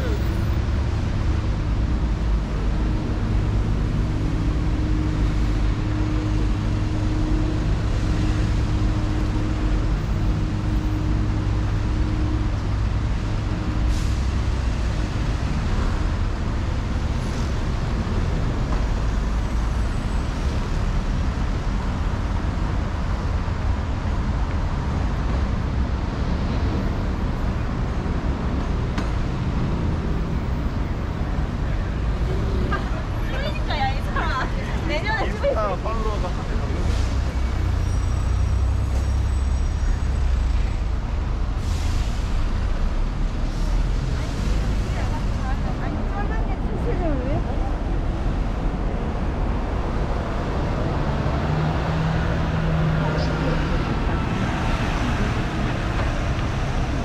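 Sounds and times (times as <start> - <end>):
traffic engines rumbling: 0.0 - 57.0.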